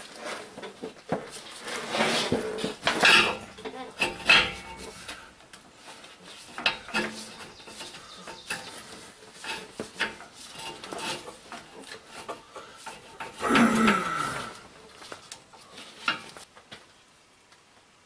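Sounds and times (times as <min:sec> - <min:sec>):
metal lines scraping and clicking: 0:00.0 - 0:16.5.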